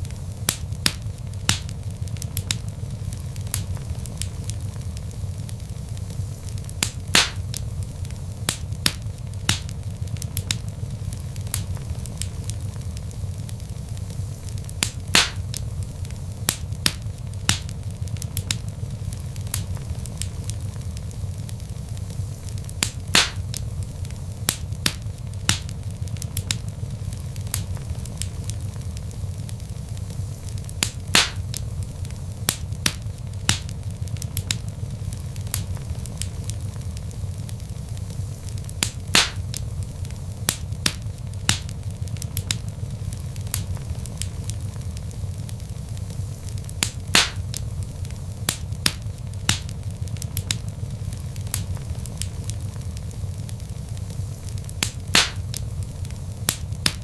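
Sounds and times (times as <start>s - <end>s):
fire pops and snaps: 0.0s - 57.0s
low rumble of flames: 0.0s - 57.0s.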